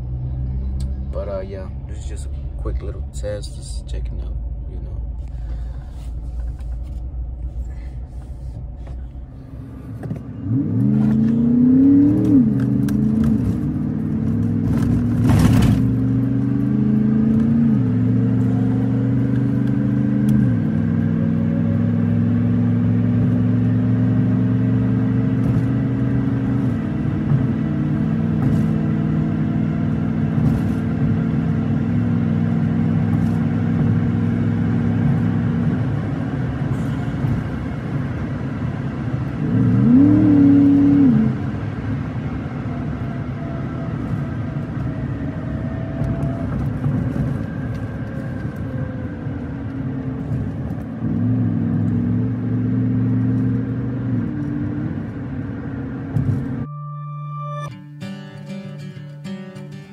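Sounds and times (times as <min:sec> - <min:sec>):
truck engine accelerating: 0:00.0 - 0:57.7.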